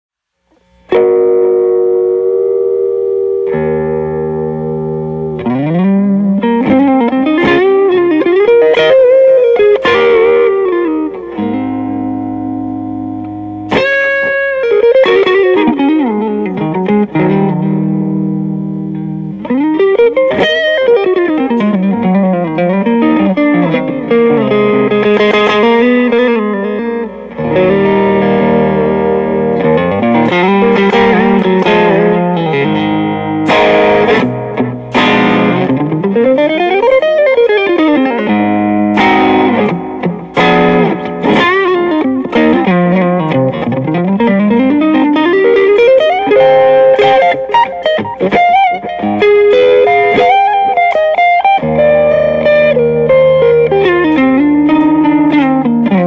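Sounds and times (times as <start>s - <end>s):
electric guitar improvisation: 0.3s - 56.0s.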